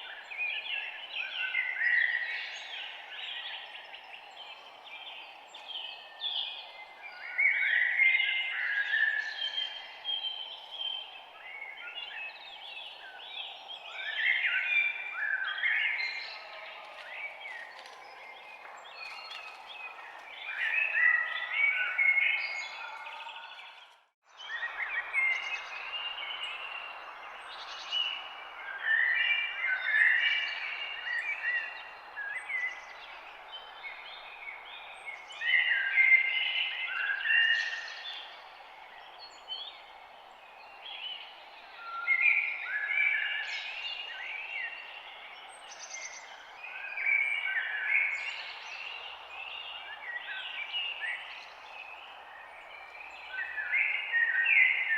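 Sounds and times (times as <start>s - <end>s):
birds chirping and singing: 0.0s - 54.9s.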